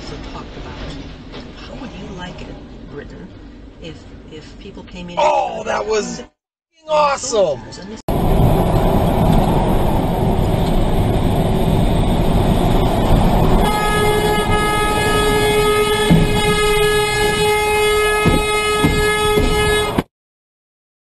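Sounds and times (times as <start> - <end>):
road and wind noise in car: 0.0 - 5.8, 7.0 - 20.1.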